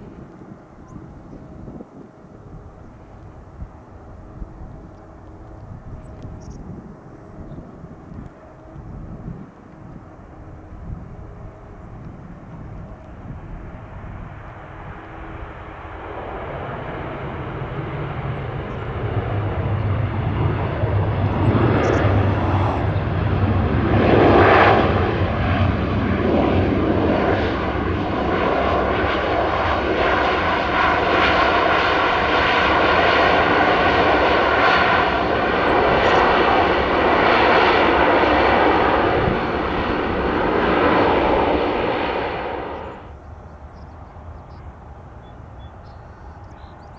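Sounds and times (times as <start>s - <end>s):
airliner engines: 0.0s - 46.9s.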